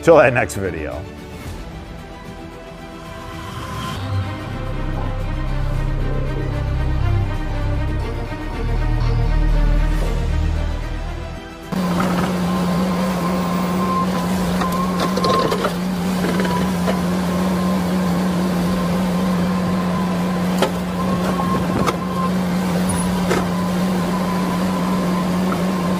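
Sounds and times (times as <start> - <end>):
excavator engine hum: 2.1 - 25.9.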